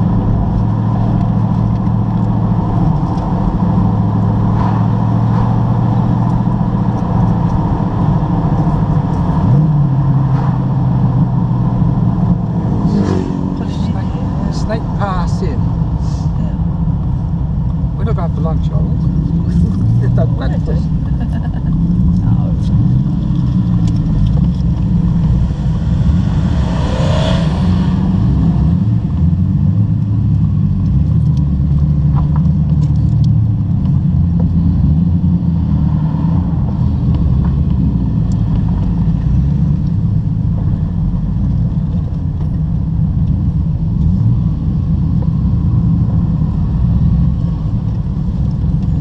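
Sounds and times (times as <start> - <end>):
sports car engine droning: 0.0 - 49.0.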